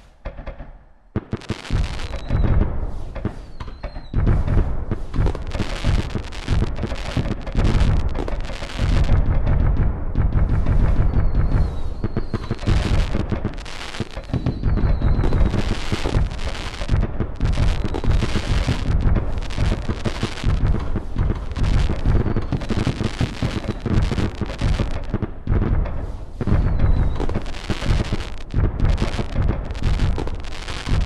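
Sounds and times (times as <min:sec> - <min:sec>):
fireworks booming and crackling: 0:00.0 - 0:31.0
faint firework whistle: 0:01.3 - 0:09.2, 0:10.5 - 0:25.1, 0:26.0 - 0:31.0.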